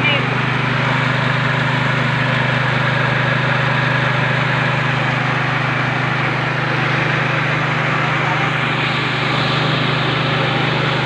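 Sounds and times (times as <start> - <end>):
low machine hum: 0.0 - 11.0
rushing grain through mill: 0.0 - 11.0.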